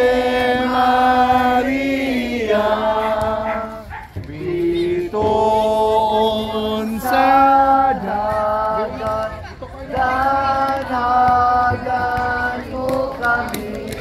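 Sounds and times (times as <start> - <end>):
congregation singing a hymn: 0.0 - 14.0.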